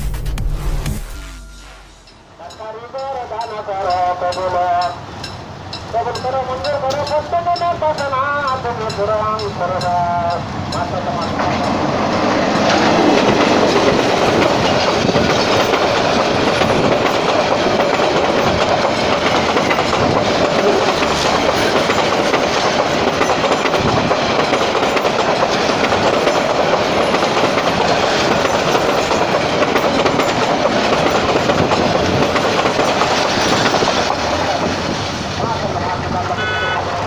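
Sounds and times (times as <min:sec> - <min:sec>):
passenger train rushing past: 0:01.5 - 0:37.0
wheels clattering over rail joints: 0:03.0 - 0:36.1.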